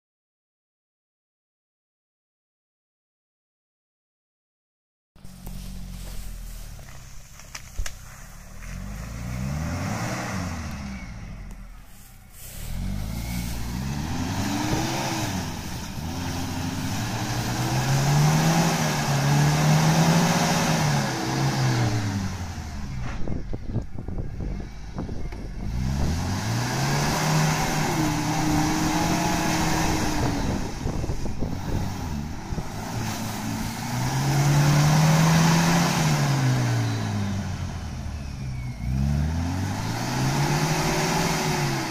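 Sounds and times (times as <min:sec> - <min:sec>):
engine revving: 0:05.2 - 0:41.9.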